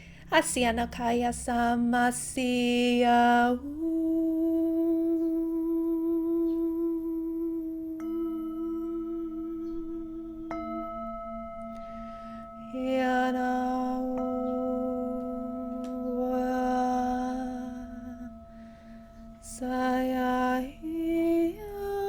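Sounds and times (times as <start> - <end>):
person singing a long note: 2.9 - 11.1, 11.8 - 22.0
struck ringing tones: 4.2 - 22.0.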